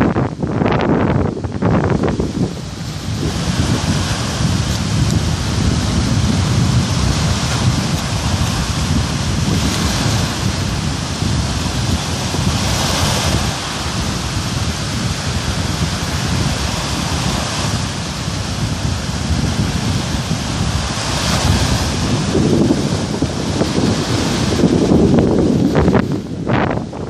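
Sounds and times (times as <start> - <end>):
surf washing: 0.0 - 27.0
wind buffeting microphone: 0.0 - 27.0.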